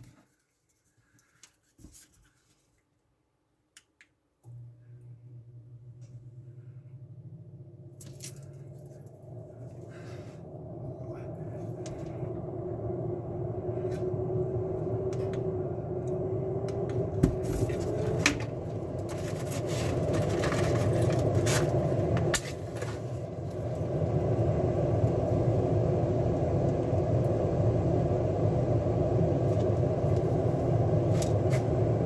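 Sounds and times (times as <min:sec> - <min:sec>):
duct fan whirring: 0:04.5 - 0:32.0.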